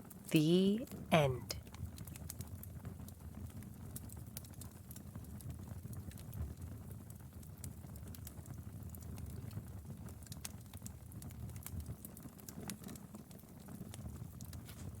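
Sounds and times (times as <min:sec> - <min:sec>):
wood fire crackling: 0:00.0 - 0:15.0
fire pops and snaps: 0:01.6 - 0:15.0.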